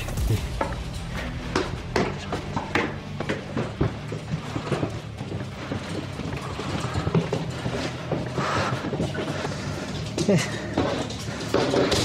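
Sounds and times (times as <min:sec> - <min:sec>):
footsteps knocking: 0:00.0 - 0:12.0
wire panels rattling and clicking: 0:00.0 - 0:12.0.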